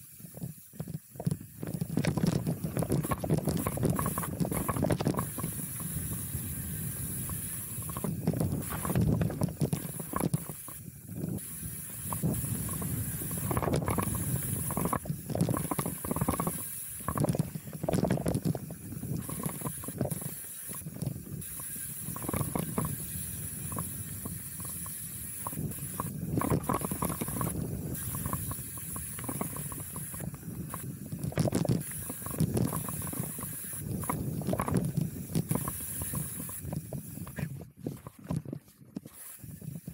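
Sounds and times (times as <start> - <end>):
bike knocking and rattling: 0.0 - 39.9
bike tyres on dirt trail: 0.0 - 39.9
wind on microphone: 0.2 - 39.9.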